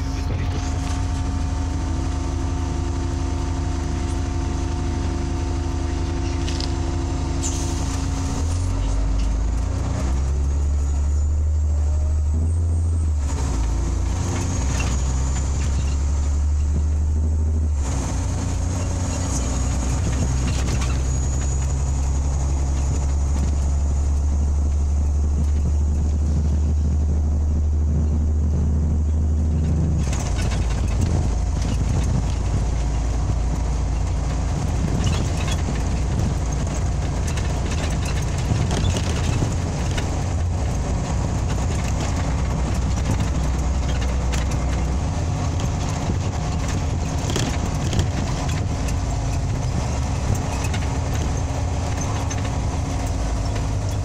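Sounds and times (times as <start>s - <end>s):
bus engine humming: 0.0s - 54.0s
road noise: 0.0s - 54.0s.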